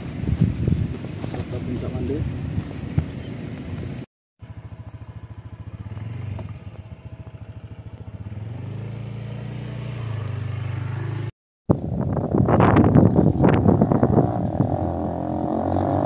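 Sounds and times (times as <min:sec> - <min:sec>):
motorcycle engine running: 0:02.4 - 0:16.0.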